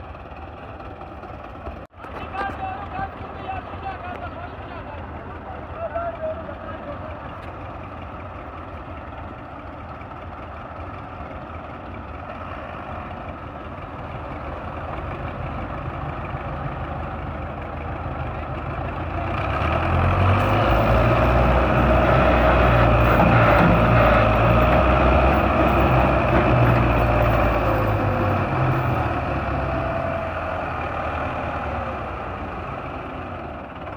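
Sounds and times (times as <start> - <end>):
tractor diesel engine: 0.0 - 33.9.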